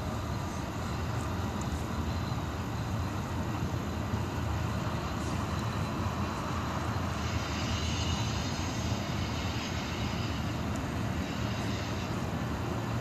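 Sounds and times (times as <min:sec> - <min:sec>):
freight train cars rolling on rails: 0:00.0 - 0:13.0.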